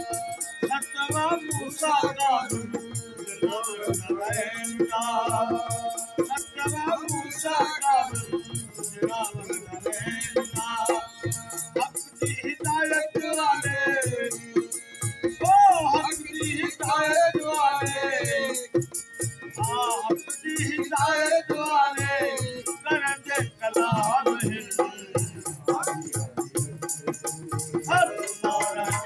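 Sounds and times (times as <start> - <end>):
dholak drum: 0.0 - 29.0
harmonium drones and chords: 0.0 - 29.0
man singing devotional song: 0.0 - 29.0.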